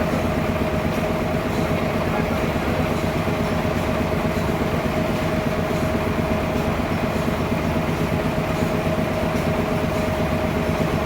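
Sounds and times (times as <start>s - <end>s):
sawmill machinery rumbling: 0.0s - 11.0s.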